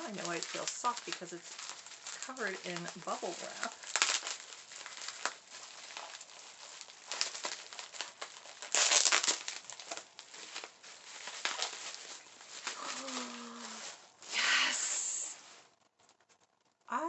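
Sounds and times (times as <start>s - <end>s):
bubble wrap crinkling: 0.0s - 16.9s.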